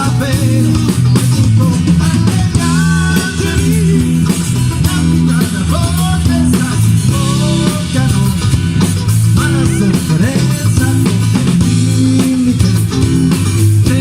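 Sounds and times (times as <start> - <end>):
bending melody line: 0.0 - 14.0
rock band playing: 0.0 - 14.0.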